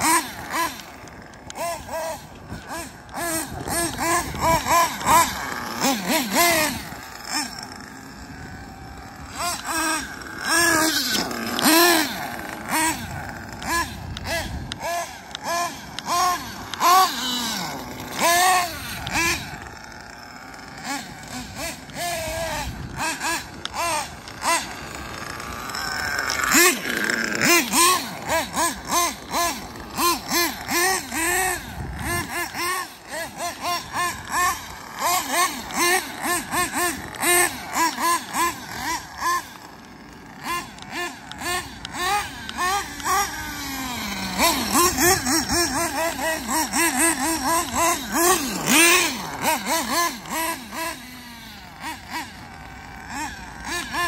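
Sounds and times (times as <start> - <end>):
model car engine revving: 0.0 - 54.0.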